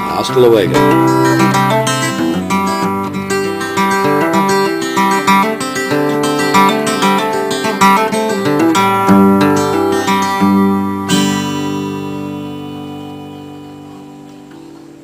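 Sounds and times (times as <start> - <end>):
guitar picking and strumming: 0.0 - 15.0.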